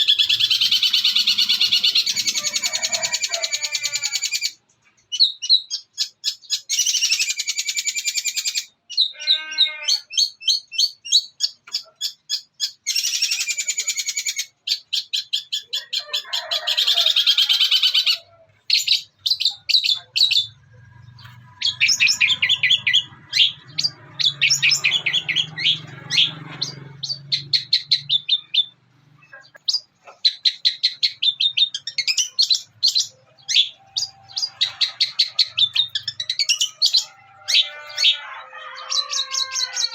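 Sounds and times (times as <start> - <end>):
shrike chattering song: 0.0 - 16.0, 17.0 - 39.9.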